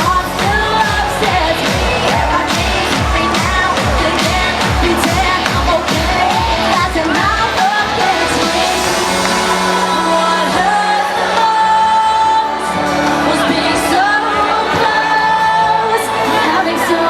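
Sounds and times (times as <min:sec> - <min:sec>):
dance-pop synths and bass: 0:00.0 - 0:17.0
woman singing: 0:00.0 - 0:17.0.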